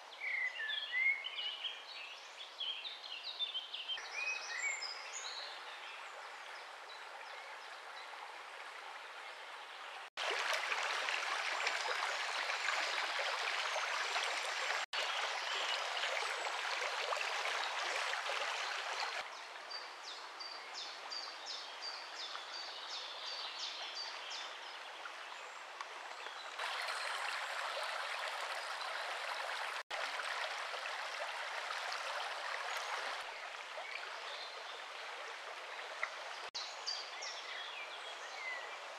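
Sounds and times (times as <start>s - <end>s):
river water rippling over stones: 4.5s - 38.9s.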